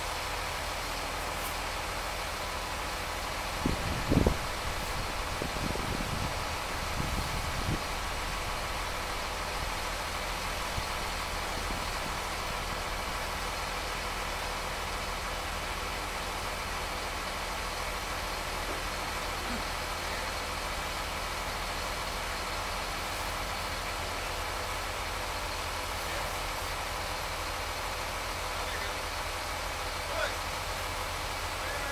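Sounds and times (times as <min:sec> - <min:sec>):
machine engine idling: 0:00.0 - 0:31.9.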